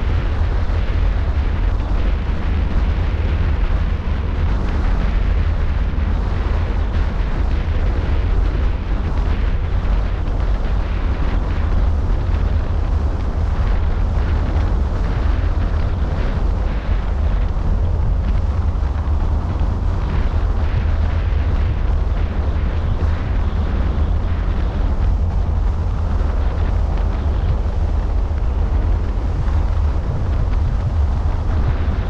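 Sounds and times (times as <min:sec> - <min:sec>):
road noise: 0:00.0 - 0:32.0
wind buffeting microphone: 0:00.0 - 0:32.0.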